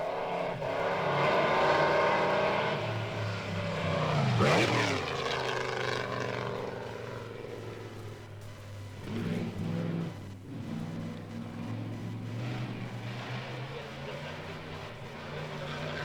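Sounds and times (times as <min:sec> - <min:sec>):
racing car passing by: 0:00.0 - 0:16.0.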